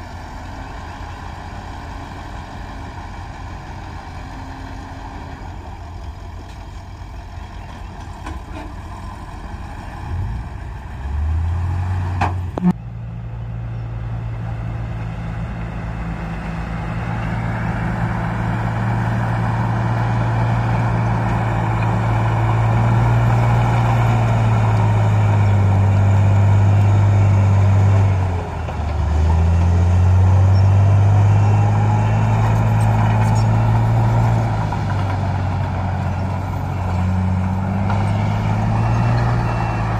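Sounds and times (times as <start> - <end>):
heavy diesel engine working: 0.0 - 39.9.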